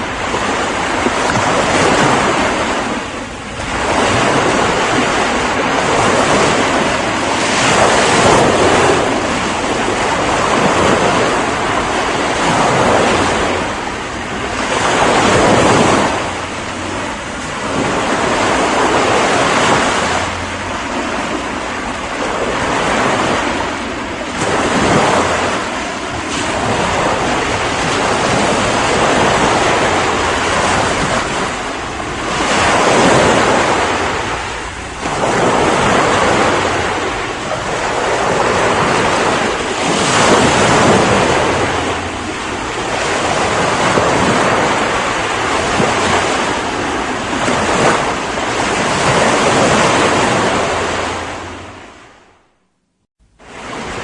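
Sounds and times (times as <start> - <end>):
ocean waves breaking: 0.0 - 52.6, 53.2 - 54.0.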